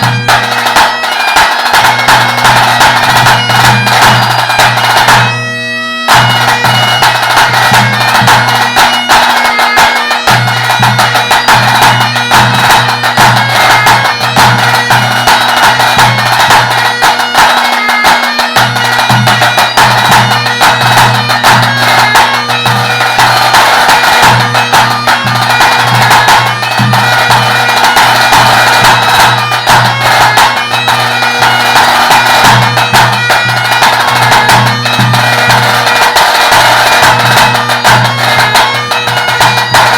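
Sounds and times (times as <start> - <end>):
bagpipe playing a tune: 0.0 - 39.9.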